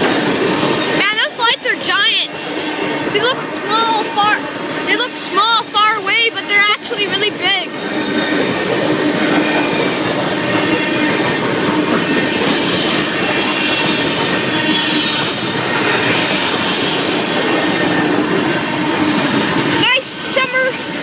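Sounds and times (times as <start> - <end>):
train wheels rumbling on rails: 0.0 - 21.0
high wheel squeal: 0.7 - 20.9.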